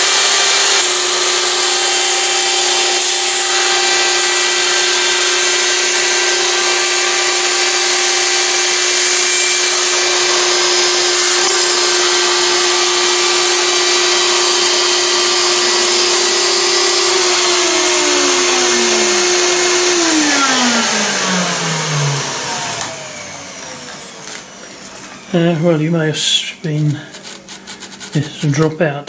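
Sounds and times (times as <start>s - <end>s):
motor winding down: 0.0s - 28.3s
shop vacuum sucking: 0.0s - 28.7s
cnc router spindle cutting plastic: 0.0s - 28.8s.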